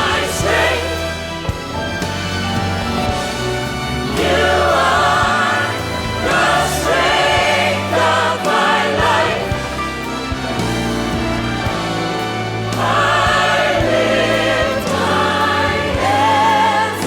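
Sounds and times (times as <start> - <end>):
choir singing a worship song: 0.0 - 2.0, 3.4 - 17.0
instrumental accompaniment: 0.0 - 17.0.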